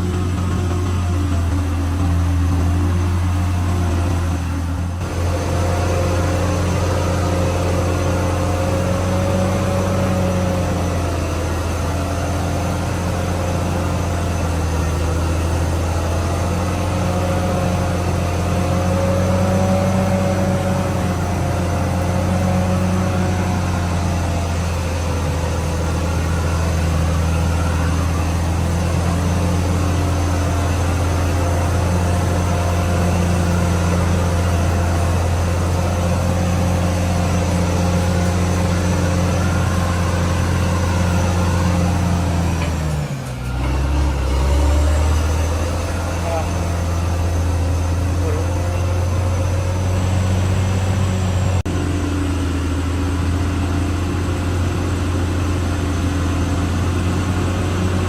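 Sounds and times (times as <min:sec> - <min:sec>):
bulldozer diesel engine running: 0:00.0 - 0:58.0
wavering whine: 0:00.0 - 0:58.0.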